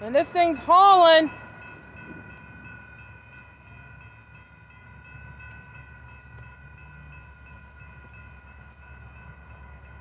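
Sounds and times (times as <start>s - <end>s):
crossing warning bell ringing: 0.0s - 10.0s
low train rumble: 0.0s - 10.0s.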